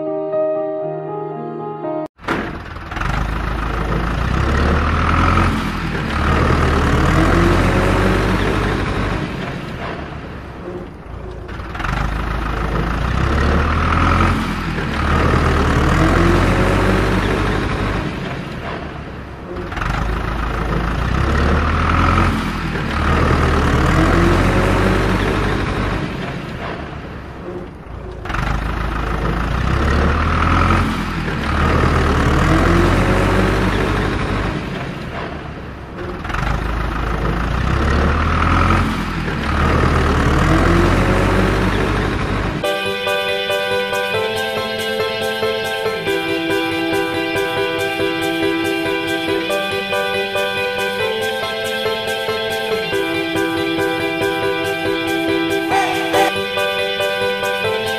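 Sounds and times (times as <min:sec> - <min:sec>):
truck engine sound effect: 0:00.0 - 0:57.9.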